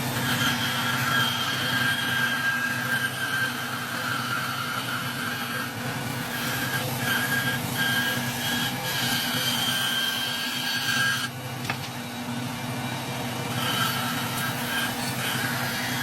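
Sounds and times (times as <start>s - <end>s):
bandsaw cutting wood: 0.0s - 11.8s, 13.0s - 16.0s.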